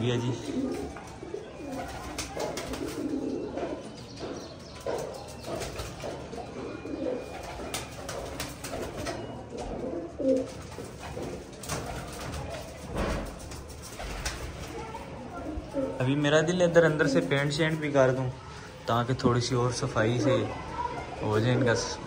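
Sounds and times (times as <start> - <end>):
pigeons cooing: 0.0 - 18.9.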